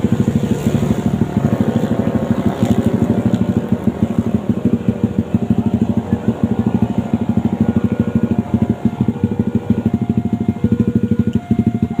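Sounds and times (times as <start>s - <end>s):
engine running with pulsing beat: 0.0s - 12.0s.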